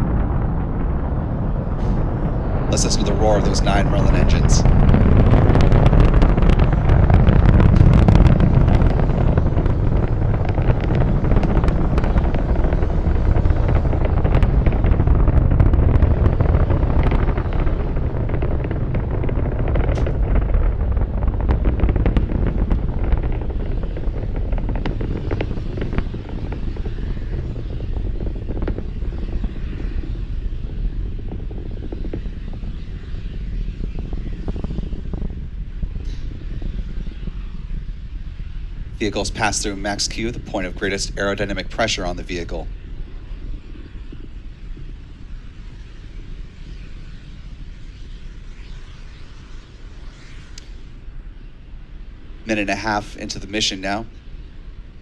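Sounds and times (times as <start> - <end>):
rocket engines roaring with crackling: 0.0 - 55.0.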